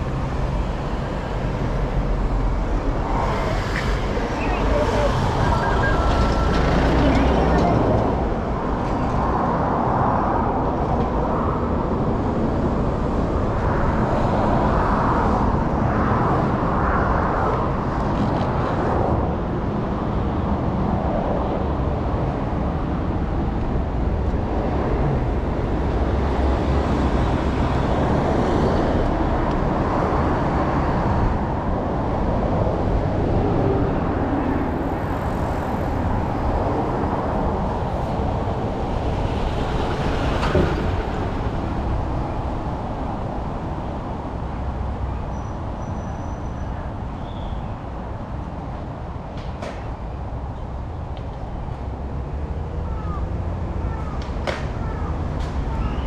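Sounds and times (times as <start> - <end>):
cars passing on a street: 0.0 - 56.0.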